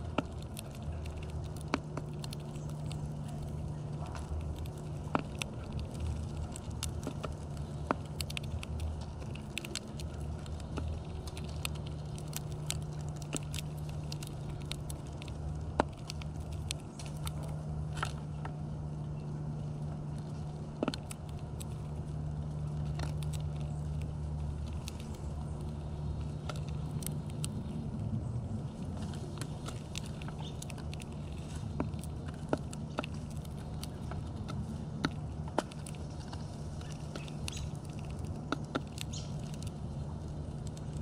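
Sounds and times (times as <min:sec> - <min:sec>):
birds cracking seed in feeder: 0:00.0 - 0:41.0
low hum: 0:00.0 - 0:41.0.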